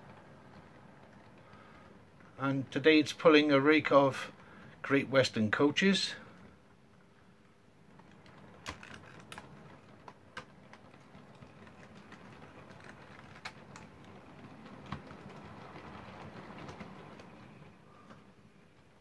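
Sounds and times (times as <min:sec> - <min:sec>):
wheels clicking on rail joints: 0:00.0 - 0:19.0.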